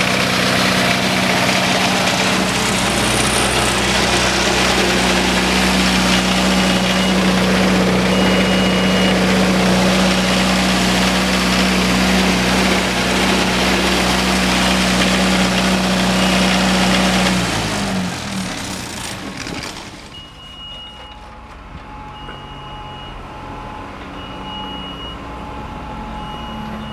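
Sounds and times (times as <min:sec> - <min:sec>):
diesel generator running: 0:00.0 - 0:26.9.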